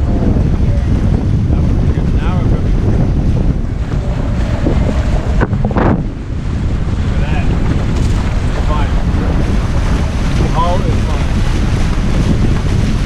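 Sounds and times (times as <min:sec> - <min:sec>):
water rushing past boat hulls: 0:00.0 - 0:13.0
wind buffeting microphone: 0:00.0 - 0:13.0.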